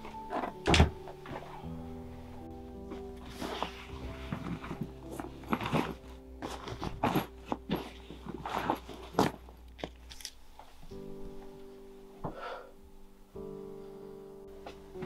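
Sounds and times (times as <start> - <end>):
soft music underscore: 0.0 - 15.0.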